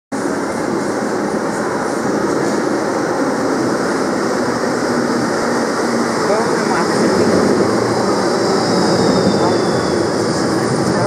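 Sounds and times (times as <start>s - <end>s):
tram wheels rumbling on rails: 0.1s - 11.0s.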